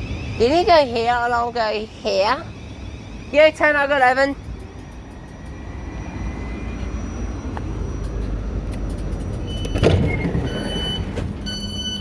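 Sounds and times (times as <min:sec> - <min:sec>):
electric train rumbling: 0:00.0 - 0:12.0
high electronic beeps: 0:01.9 - 0:12.0.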